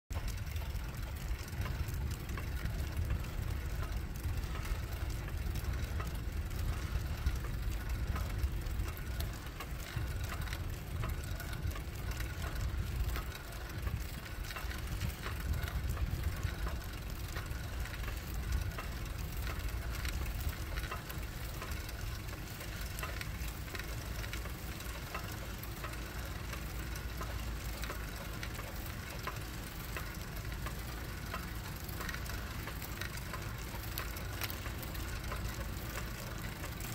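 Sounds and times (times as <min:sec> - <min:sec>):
faint light ticks: 0:00.1 - 0:36.9
vehicle rumbling: 0:00.1 - 0:36.9.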